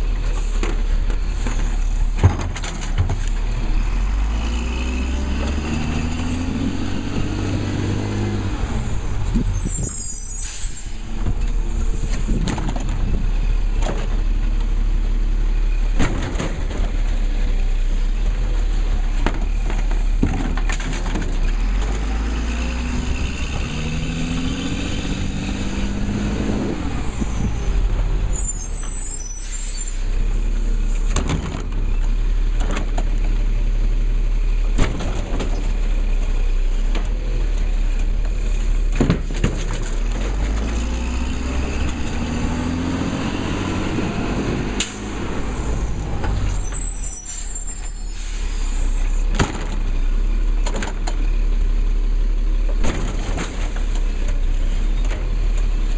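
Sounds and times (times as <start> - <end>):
diesel engine revving: 0.0 - 55.9.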